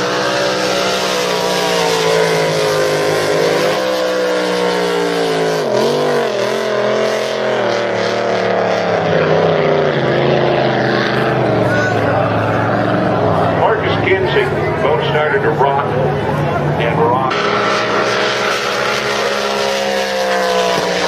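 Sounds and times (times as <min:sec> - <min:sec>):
powerboat engine running hard: 0:00.0 - 0:21.0.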